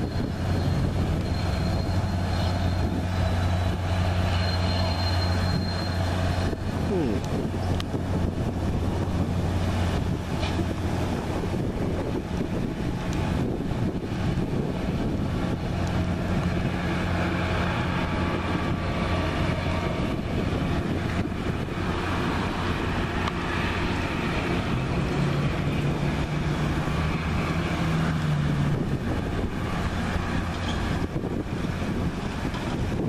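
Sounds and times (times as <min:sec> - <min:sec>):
diesel train engine humming: 0:00.0 - 0:33.0.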